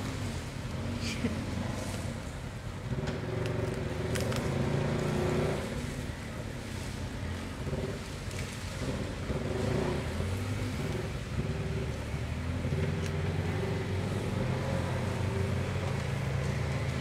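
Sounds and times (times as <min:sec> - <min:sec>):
off-road vehicle engine low revs: 0:00.0 - 0:17.0.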